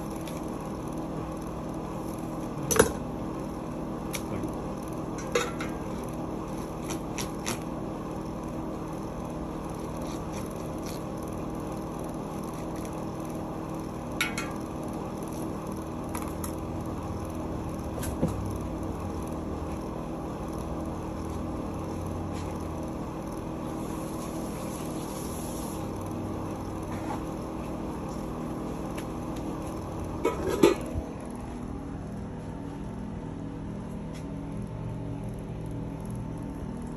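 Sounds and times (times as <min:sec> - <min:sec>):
kitchen background hum: 0:00.0 - 0:36.9.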